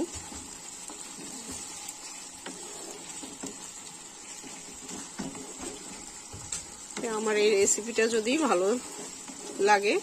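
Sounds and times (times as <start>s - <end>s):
curry sizzling and popping: 0.0s - 10.0s.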